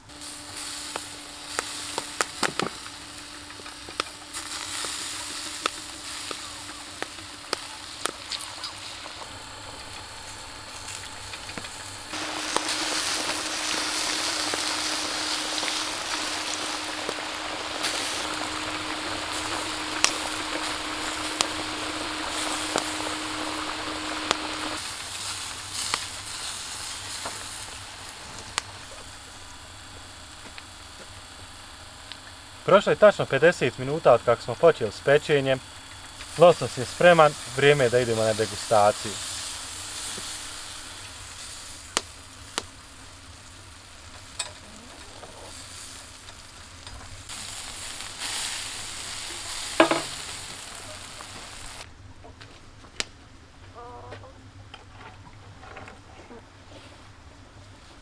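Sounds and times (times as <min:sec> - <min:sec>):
potatoes sizzling in oil: 0:00.0 - 0:51.9
charcoal fire crackling and popping: 0:00.0 - 0:53.2.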